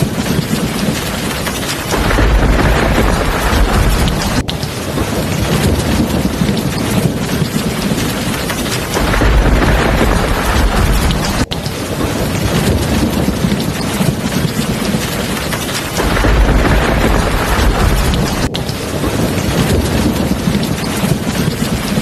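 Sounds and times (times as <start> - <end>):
heavy rain falling: 0.0 - 22.0
thunder rolling low: 0.0 - 22.0.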